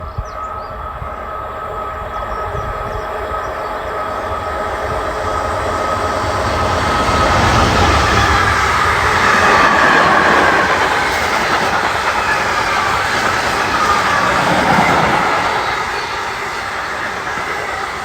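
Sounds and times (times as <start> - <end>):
freight train rumble: 0.0 - 18.0
high whine: 2.0 - 18.0.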